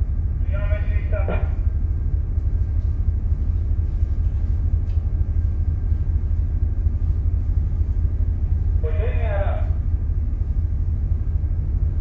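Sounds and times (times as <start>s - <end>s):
faint steady hum: 0.0s - 12.0s
ship engine low rumble: 0.0s - 12.0s.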